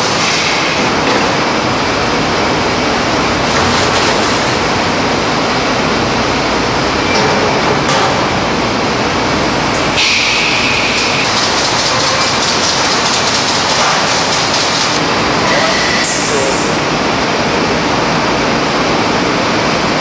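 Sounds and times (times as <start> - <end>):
loud machinery noise: 0.0 - 20.0.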